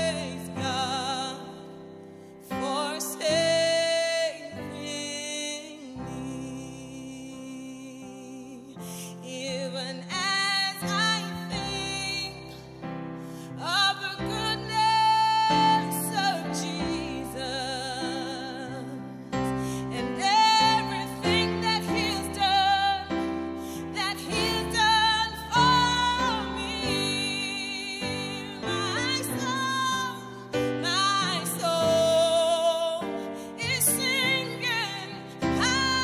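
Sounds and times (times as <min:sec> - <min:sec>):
woman singing gospel song: 0:00.0 - 0:36.0.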